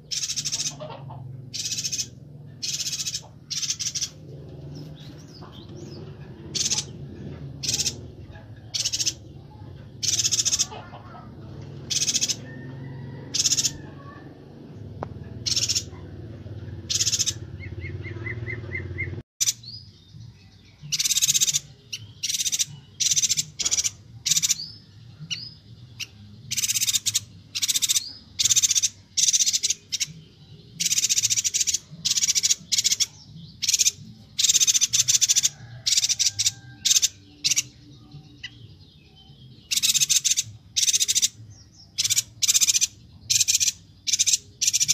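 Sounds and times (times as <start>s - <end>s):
bird high-pitched chirps: 0.0s - 4.2s, 4.8s - 11.3s, 11.9s - 14.3s, 15.2s - 16.1s, 16.8s - 44.9s.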